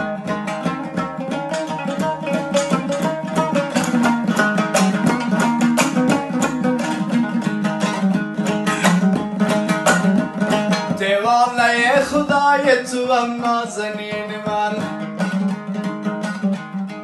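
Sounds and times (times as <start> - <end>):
long-necked lute strummed: 0.0 - 17.0.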